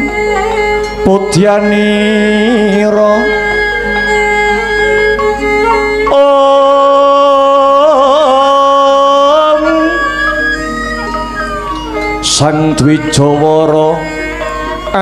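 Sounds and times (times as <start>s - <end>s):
man singing slowly: 0.0s - 10.6s, 12.2s - 15.0s
gamelan accompaniment: 0.0s - 15.0s.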